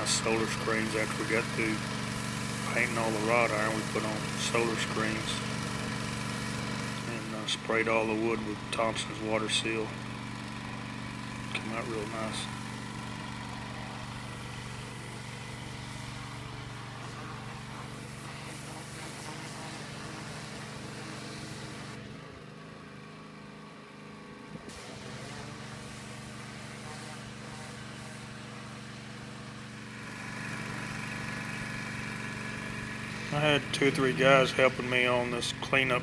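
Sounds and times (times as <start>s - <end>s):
engine idling: 0.0s - 24.5s, 28.6s - 36.0s.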